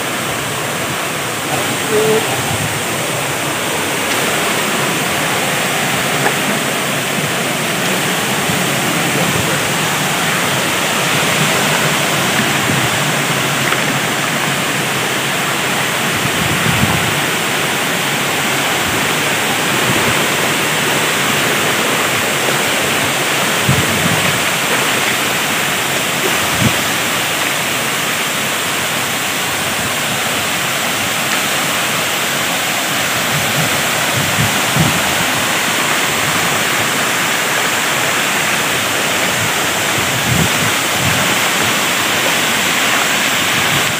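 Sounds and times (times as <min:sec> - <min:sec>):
waterfall rushing over rocks: 0:00.0 - 0:43.9.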